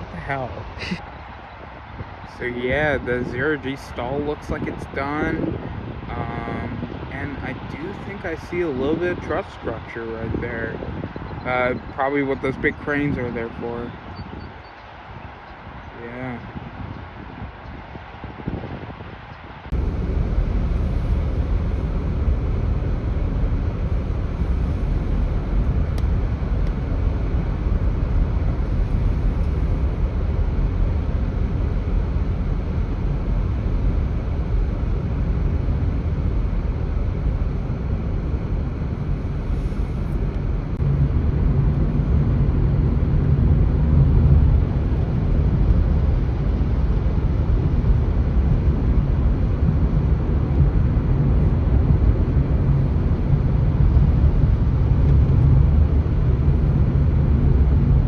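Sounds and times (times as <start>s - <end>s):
deeper hum: 0.0s - 58.0s
low outdoor rumble: 0.0s - 58.0s.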